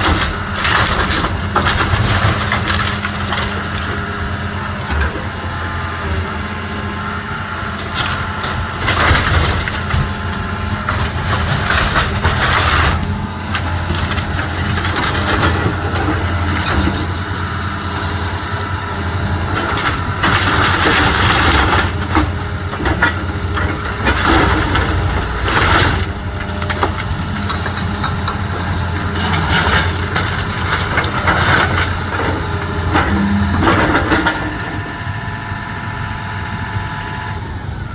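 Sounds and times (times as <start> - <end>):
wood crunching and splintering: 0.0 - 4.4, 7.9 - 35.0
machine engine running: 0.0 - 37.9.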